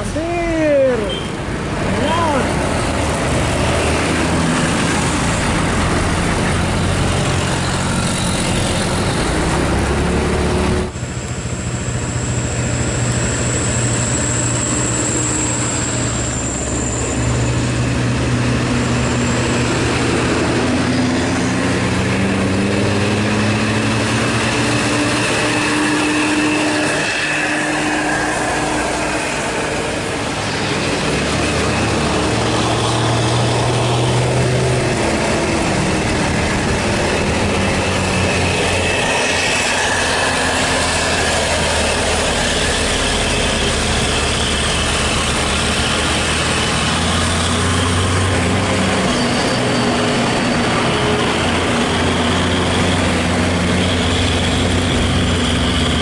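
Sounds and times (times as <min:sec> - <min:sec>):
diesel bus engines climbing: 0:00.0 - 0:56.0
high thin whine: 0:04.6 - 0:56.0.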